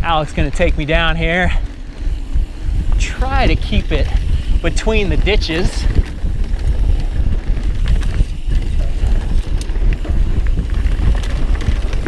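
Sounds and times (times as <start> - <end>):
bike clicks and knocks: 0.0 - 12.0
bike tyres rolling over rocks: 0.0 - 12.0
wind rumble on microphone: 0.0 - 12.0.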